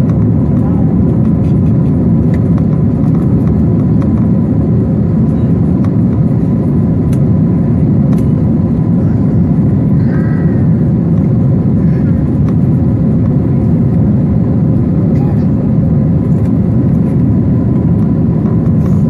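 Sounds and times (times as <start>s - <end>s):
jet engines droning: 0.0s - 19.0s.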